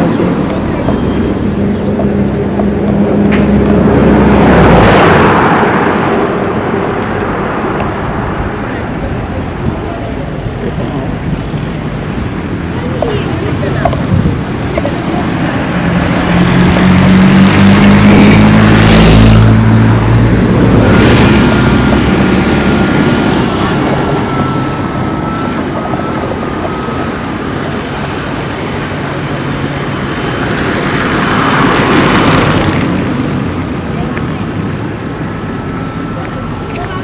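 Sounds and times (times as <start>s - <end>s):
road traffic noise: 0.0s - 37.0s
vehicle engine drone passing: 0.0s - 37.0s.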